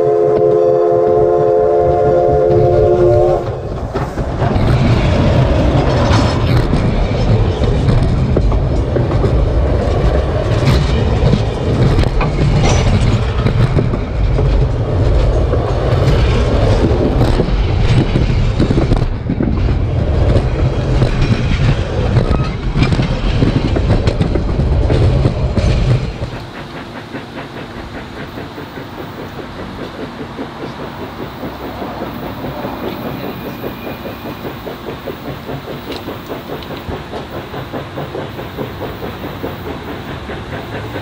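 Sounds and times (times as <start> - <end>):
railroad cars rumbling overhead: 0.0 - 41.0.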